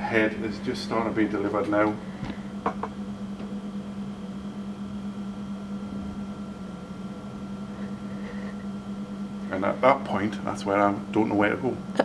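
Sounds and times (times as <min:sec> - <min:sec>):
mechanical hum with whine: 0:00.0 - 0:12.0.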